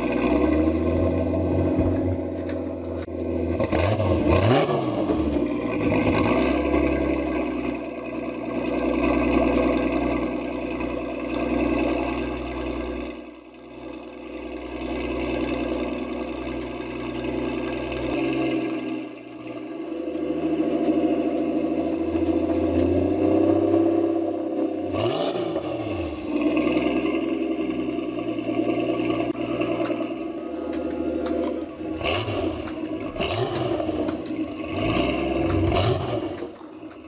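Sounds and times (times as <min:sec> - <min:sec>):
sports car engine revving: 0:00.0 - 0:37.0.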